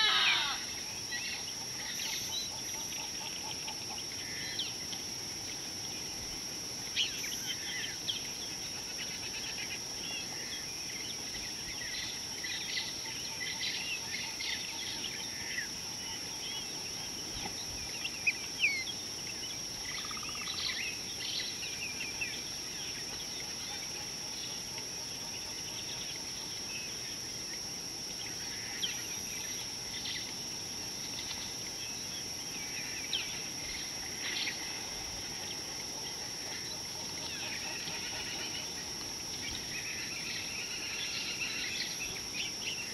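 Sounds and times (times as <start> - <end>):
high-pitched insect drone: 0.0 - 42.9.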